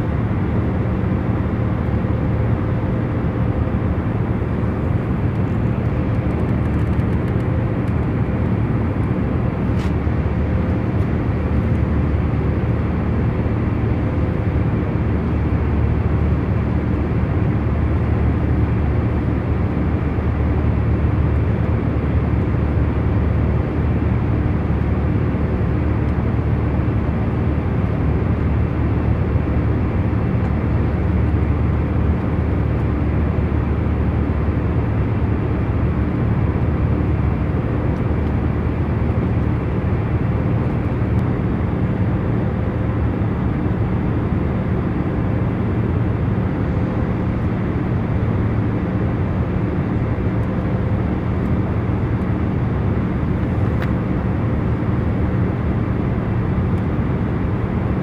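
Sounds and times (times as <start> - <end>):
airliner cabin engine rush: 0.0 - 58.0
faint constant hum: 0.0 - 58.0.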